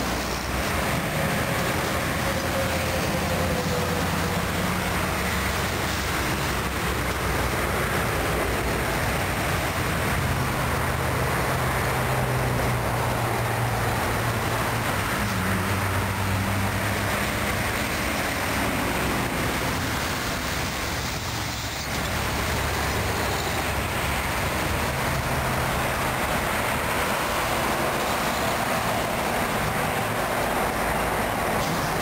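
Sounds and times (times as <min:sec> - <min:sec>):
truck engine drone: 0:00.0 - 0:32.0.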